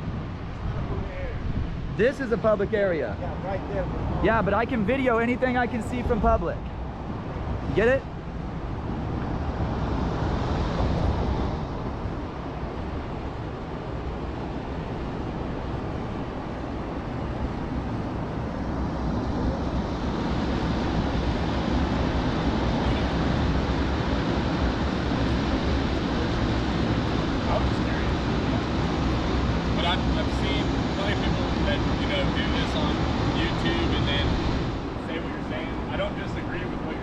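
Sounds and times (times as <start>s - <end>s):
road traffic rushing: 0.0s - 37.0s.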